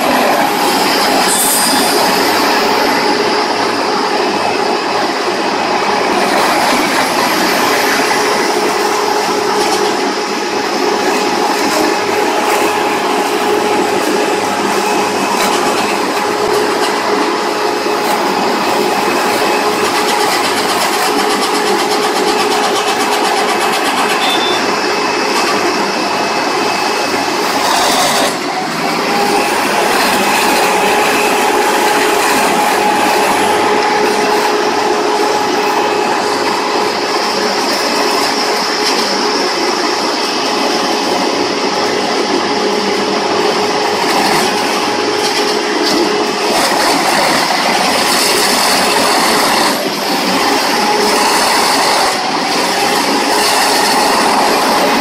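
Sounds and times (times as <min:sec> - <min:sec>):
machine hum: 0:00.0 - 0:55.0
wood shredder grinding logs: 0:00.0 - 0:55.0.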